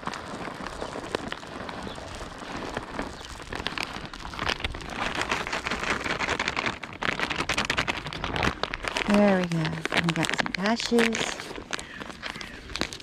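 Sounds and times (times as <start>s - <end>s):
bag crinkling: 0.0s - 13.0s
nuts rattling out: 0.0s - 13.0s.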